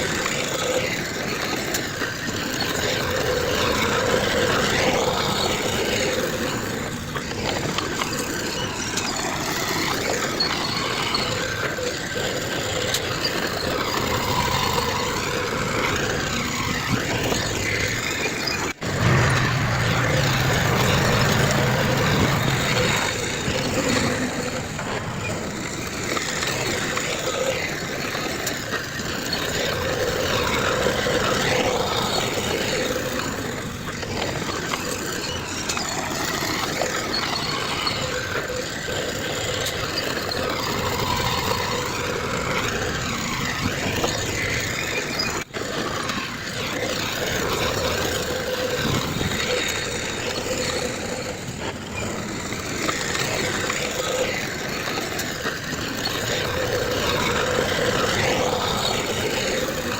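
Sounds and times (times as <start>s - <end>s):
diesel engines of heavy machinery: 0.0s - 59.9s.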